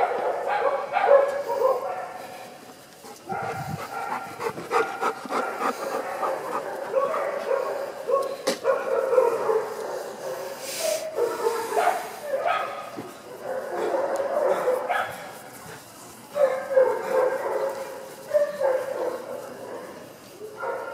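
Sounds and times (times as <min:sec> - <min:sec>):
dogs barking and yipping: 0:00.0 - 0:15.5, 0:16.3 - 0:20.9.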